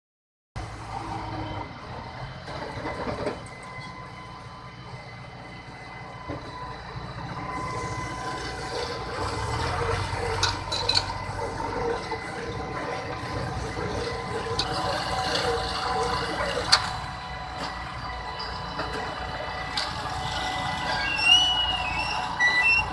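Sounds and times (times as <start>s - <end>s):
baler mechanical whine: 0.6s - 22.9s.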